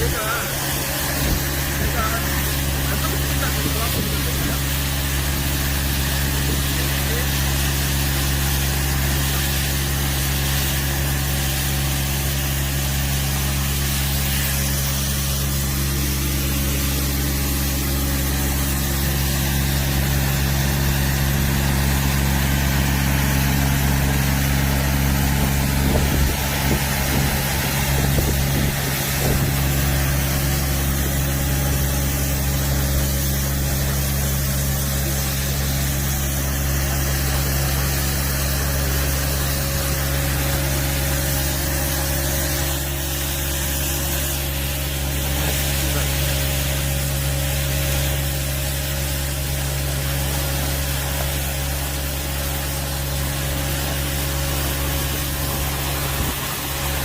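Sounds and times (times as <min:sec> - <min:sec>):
loader engine running: 0:00.0 - 0:57.0.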